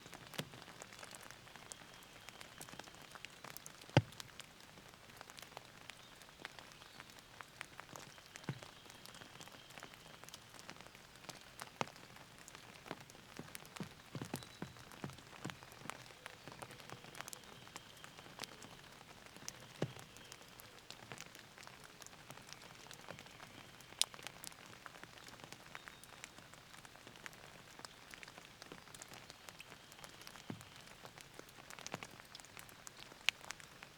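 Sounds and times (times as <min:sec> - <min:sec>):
raindrops tapping close by: 0:00.0 - 0:33.9.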